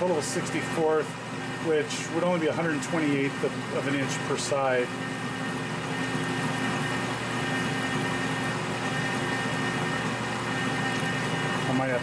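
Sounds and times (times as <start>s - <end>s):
metal lathe running: 0.0s - 12.0s
reamer cutting metal: 0.0s - 12.0s.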